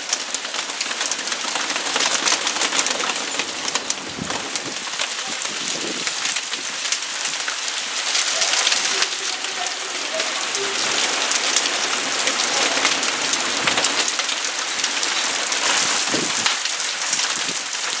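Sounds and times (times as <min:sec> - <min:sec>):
heavy rain and hail on hard surface: 0:00.0 - 0:18.0.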